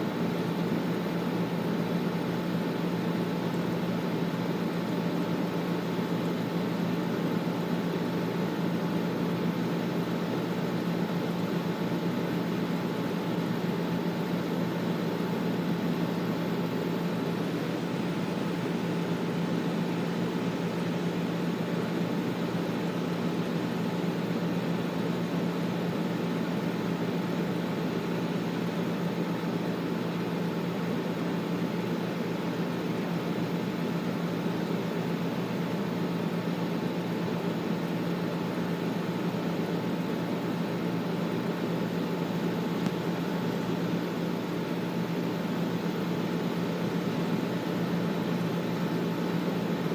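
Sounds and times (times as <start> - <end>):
air conditioner airflow whooshing: 0.0 - 49.9.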